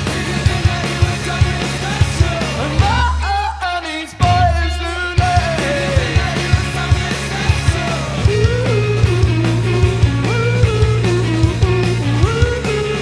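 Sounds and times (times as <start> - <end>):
bass guitar: 0.0 - 13.0
drums: 0.0 - 13.0
electric guitar: 0.0 - 13.0
person singing lead vocal: 0.0 - 13.0.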